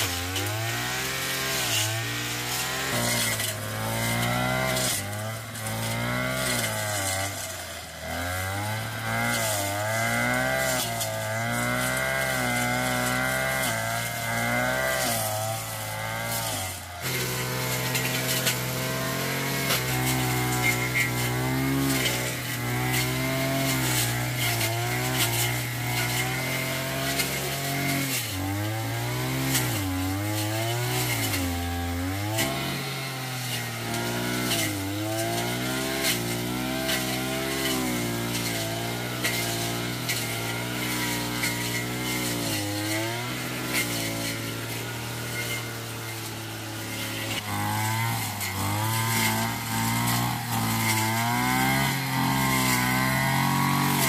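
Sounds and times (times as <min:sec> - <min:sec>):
small petrol engine running hard: 0:00.0 - 0:54.0.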